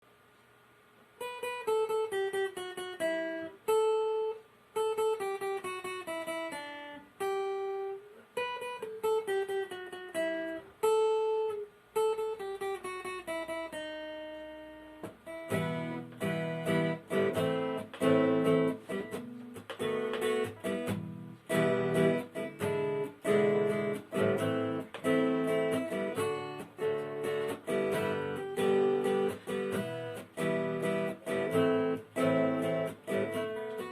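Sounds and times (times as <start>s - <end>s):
acoustic guitar playing: 1.0s - 33.9s.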